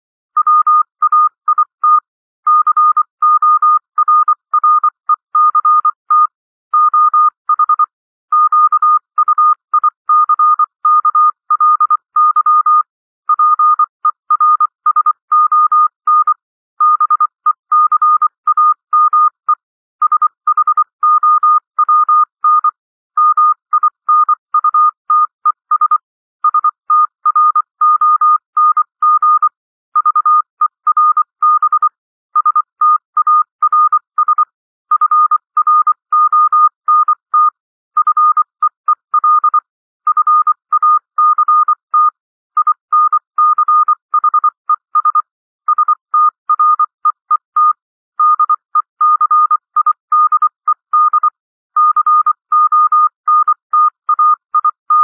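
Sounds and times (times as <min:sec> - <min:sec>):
morse code beeps: 0:00.4 - 0:55.0.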